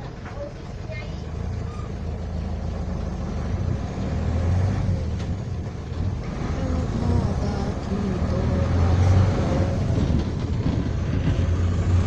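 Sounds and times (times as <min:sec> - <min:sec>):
diesel bus engine running: 0:00.0 - 0:12.0.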